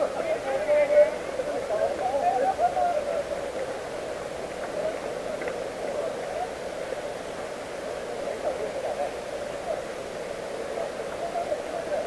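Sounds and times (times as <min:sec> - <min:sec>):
muffled distant voices chatter: 0:00.0 - 0:12.0
steady background noise: 0:00.0 - 0:12.0.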